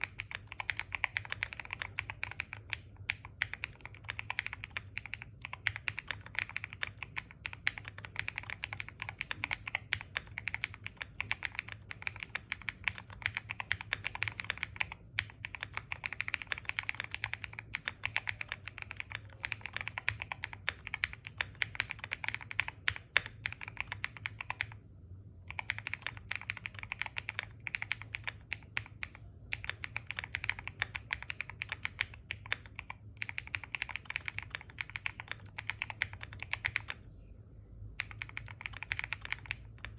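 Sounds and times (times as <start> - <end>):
fast typing on mechanical keyboard: 0.0 - 24.8, 25.4 - 37.0, 38.0 - 39.9.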